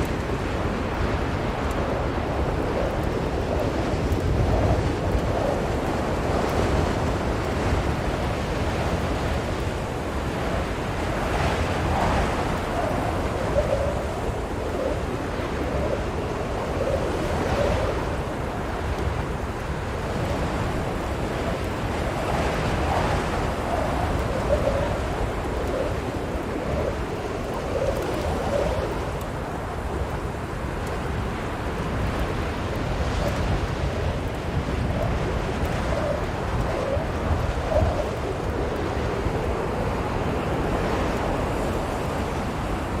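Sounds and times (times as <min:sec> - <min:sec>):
blizzard wind gusting: 0:00.0 - 0:43.0.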